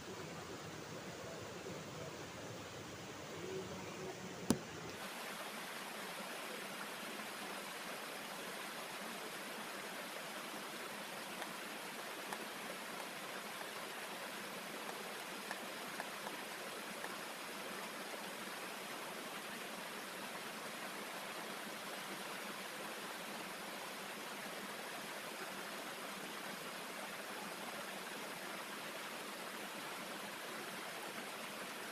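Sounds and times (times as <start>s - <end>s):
waterfall rushing over rocks: 4.9s - 31.9s.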